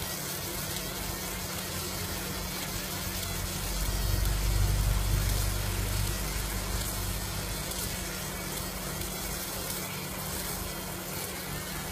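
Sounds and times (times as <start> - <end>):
laser machine hissing and humming: 0.0 - 11.9.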